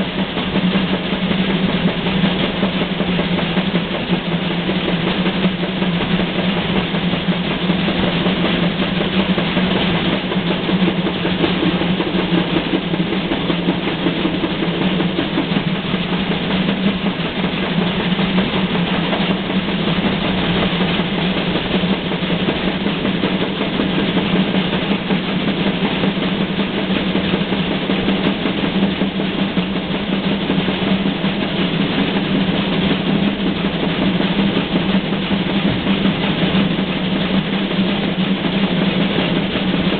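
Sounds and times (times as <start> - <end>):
moving train rumble: 0.0 - 39.9.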